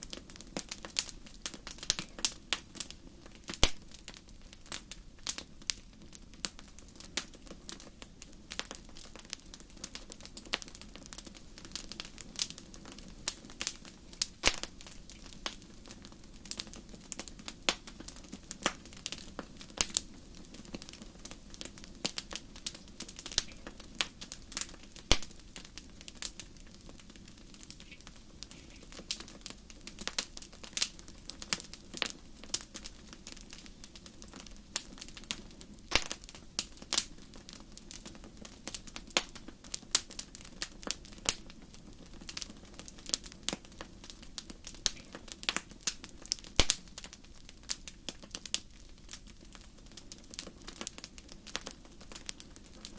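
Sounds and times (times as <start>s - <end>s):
low hiss of flames: 0.0s - 52.9s
wood fire crackling and popping: 0.0s - 52.9s.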